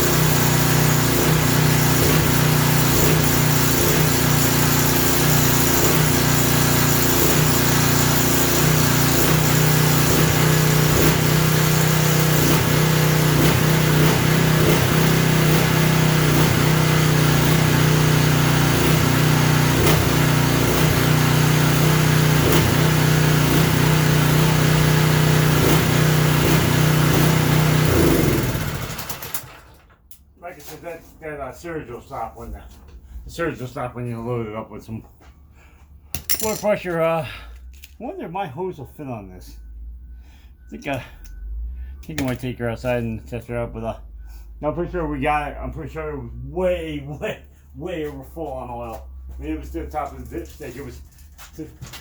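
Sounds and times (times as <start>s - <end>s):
engine running down: 0.0s - 29.9s, 39.4s - 52.0s.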